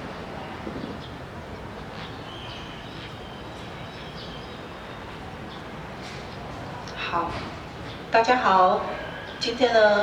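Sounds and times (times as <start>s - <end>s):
traffic hum: 0.0s - 10.0s.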